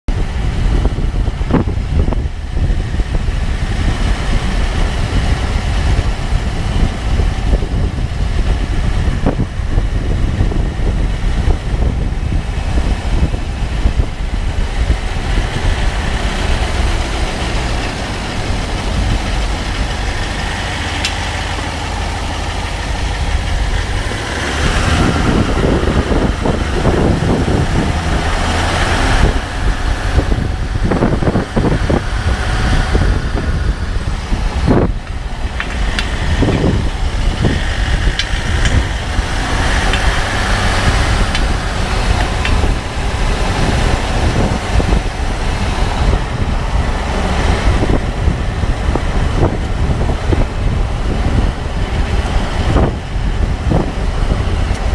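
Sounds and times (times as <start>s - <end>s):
car engine low rumble: 0.0s - 54.9s.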